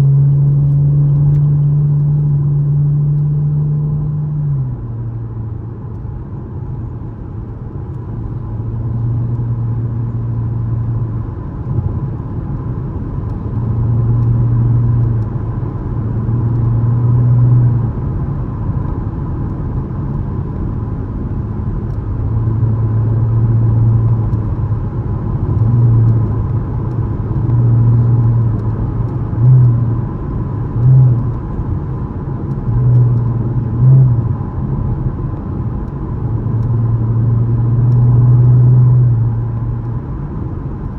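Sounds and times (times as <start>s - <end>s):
car engine and exhaust: 0.0s - 40.9s.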